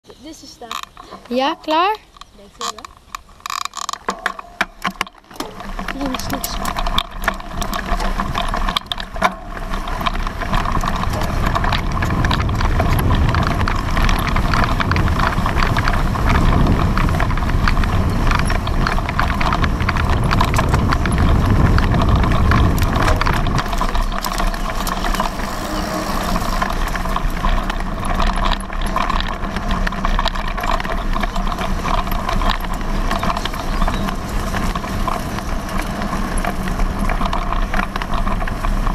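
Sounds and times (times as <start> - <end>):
bike rattling knocks: 0.6 - 38.9.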